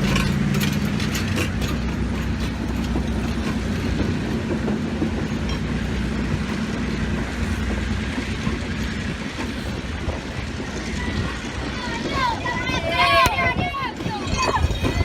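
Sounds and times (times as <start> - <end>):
diesel engine drone: 0.0 - 13.9
train wheels on track: 0.0 - 15.0.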